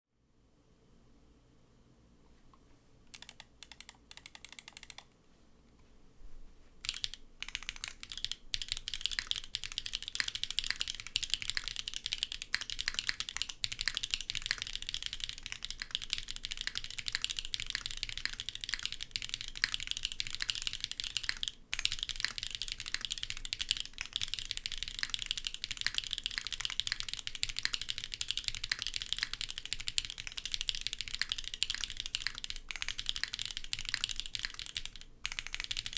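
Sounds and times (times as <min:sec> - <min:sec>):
mechanical keyboard typing: 0:03.1 - 0:05.1, 0:06.8 - 0:35.9.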